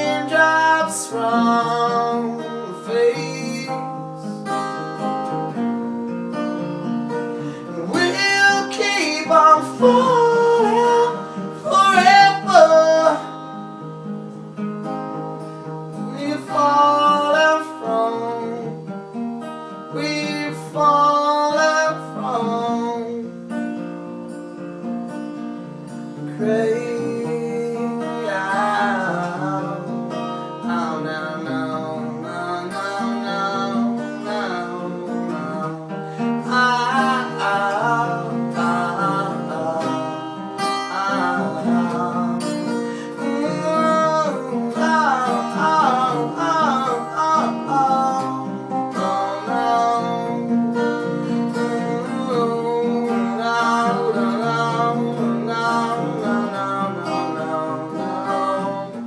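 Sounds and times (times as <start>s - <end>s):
person singing wordless melody: 0.0s - 5.9s, 7.1s - 13.9s, 15.6s - 23.5s, 26.1s - 59.0s
acoustic guitar strumming: 0.0s - 59.0s.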